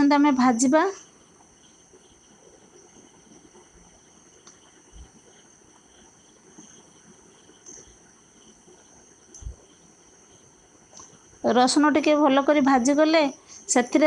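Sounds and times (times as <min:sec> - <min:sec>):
faint high chirring: 0:00.0 - 0:14.0.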